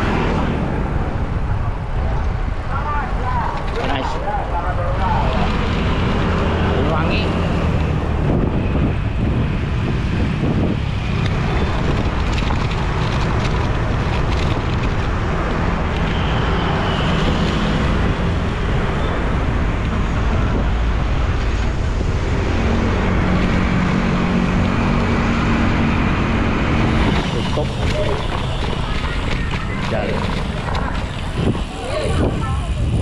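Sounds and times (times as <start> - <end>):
road traffic passing: 0.0 - 33.0
vehicle engine hum: 0.0 - 33.0
wind buffeting microphone: 0.0 - 33.0.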